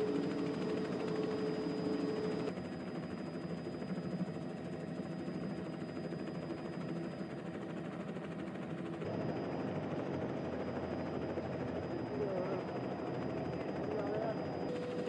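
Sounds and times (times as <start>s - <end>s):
helicopter rotor and engine: 0.0s - 15.0s
wind: 0.0s - 15.0s.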